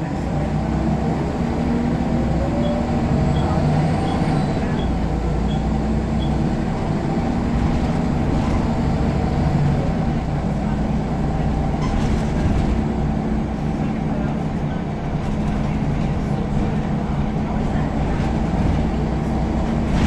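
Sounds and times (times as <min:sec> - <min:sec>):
bus diesel engine drone: 0:00.0 - 0:20.0.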